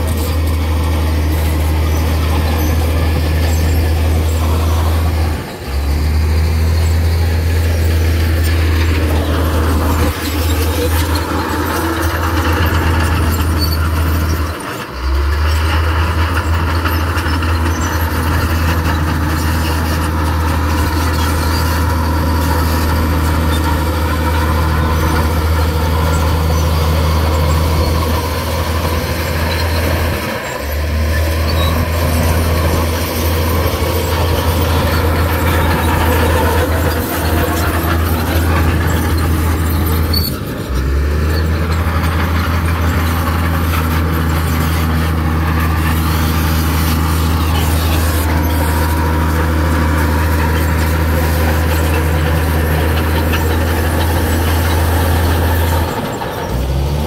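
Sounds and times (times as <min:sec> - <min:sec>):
diesel machinery engine running: 0:00.0 - 0:57.0.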